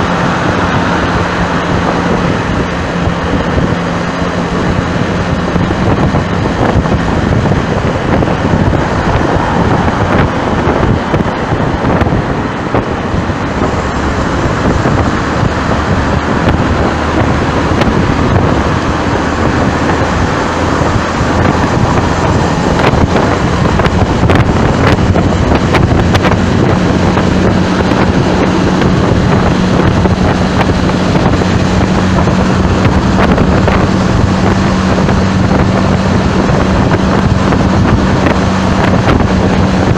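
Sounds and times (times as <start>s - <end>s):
low engine hum: 0.0s - 39.9s
wind buffeting microphone: 0.0s - 39.9s.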